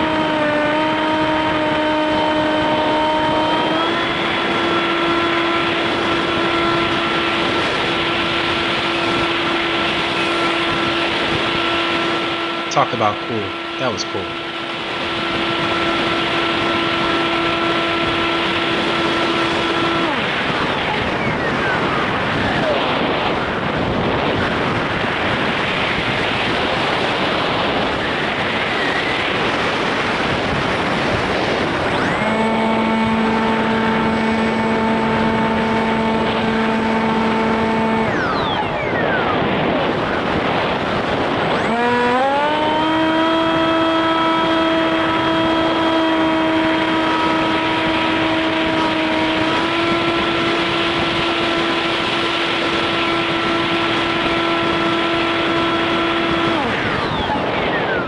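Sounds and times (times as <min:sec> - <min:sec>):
motor and propeller whine: 0:00.0 - 0:58.0
wind rushing on microphone: 0:00.0 - 0:58.0.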